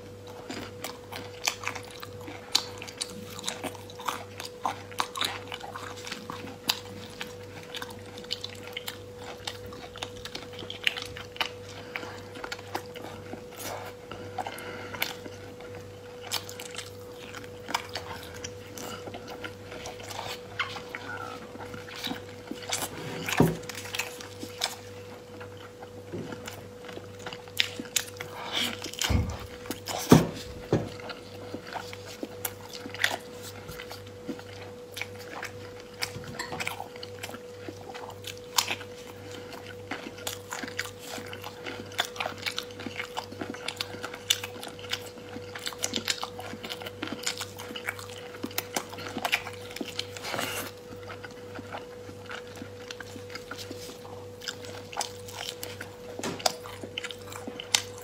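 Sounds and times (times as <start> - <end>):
chewing and lip-smacking: 0.0 - 58.0
faint steady hum: 0.0 - 58.0.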